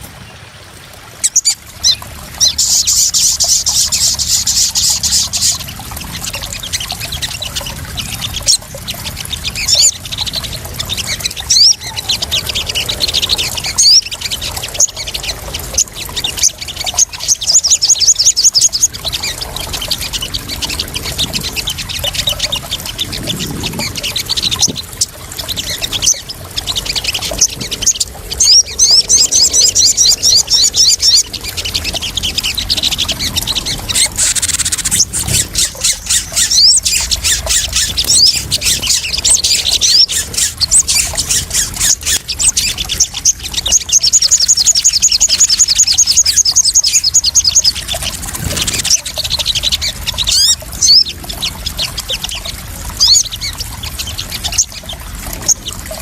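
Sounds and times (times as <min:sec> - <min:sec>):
birds chattering trills: 0:00.0 - 0:56.0
splashing trickling water: 0:00.0 - 0:56.0.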